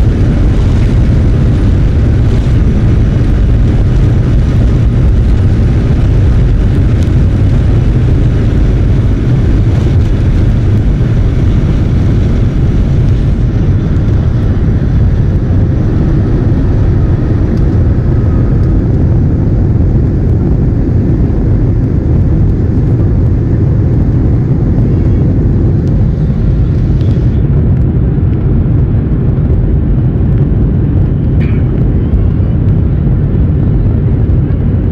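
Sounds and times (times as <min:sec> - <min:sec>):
jet engine cabin rumble: 0:00.0 - 0:34.9.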